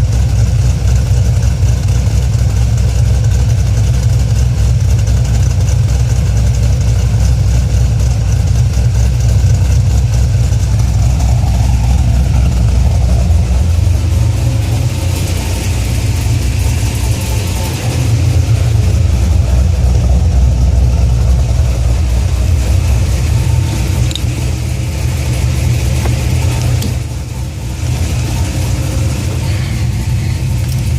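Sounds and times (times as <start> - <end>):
car engine rumbling: 0.0 - 30.9.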